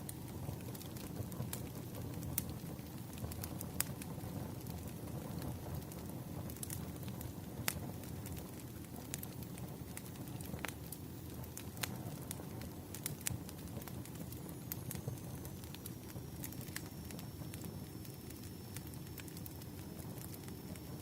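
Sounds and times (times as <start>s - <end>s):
fire crackling and popping: 0.0s - 21.0s
low rush of flames: 0.0s - 21.0s.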